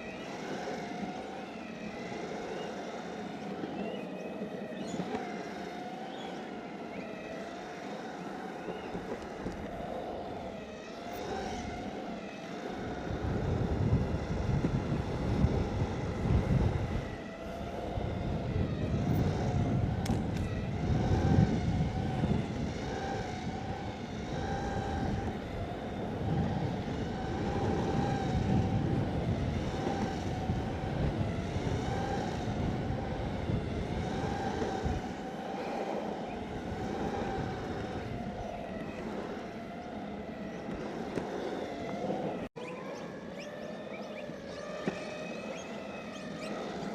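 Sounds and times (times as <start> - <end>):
electric motor whine: 0.0 - 46.9
wheels rumbling on asphalt: 0.0 - 46.9
wind: 0.0 - 46.9.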